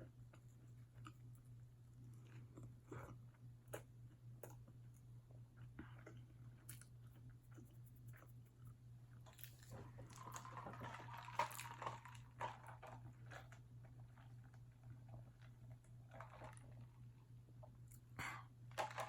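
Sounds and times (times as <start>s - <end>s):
chewing french fries: 0.1s - 18.1s.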